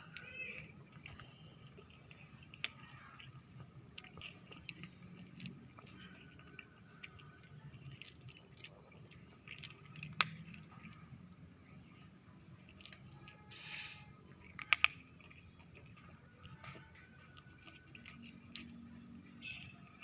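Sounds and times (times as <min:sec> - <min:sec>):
cat chewing: 0:00.0 - 0:20.0.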